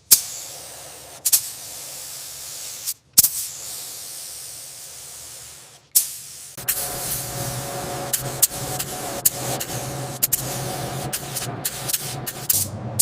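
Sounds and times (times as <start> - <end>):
paint spray gun hissing: 0.0 - 12.7.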